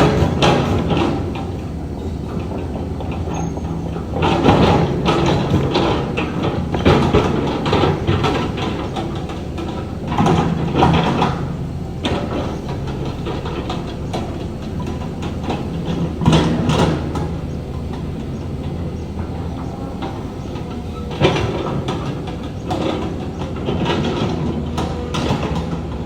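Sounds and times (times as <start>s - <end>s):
diesel engine running under load: 0.0s - 26.0s
metallic clanking: 0.0s - 26.0s.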